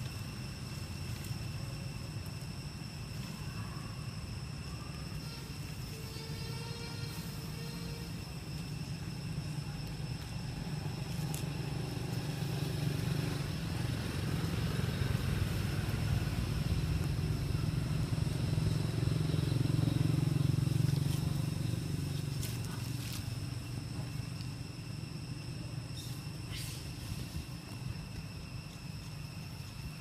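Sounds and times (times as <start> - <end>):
low motor rumble: 0.0 - 30.0.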